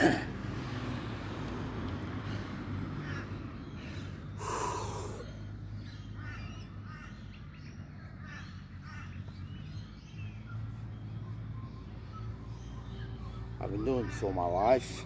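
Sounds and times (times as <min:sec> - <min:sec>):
small birds chirping: 0:01.5 - 0:15.0.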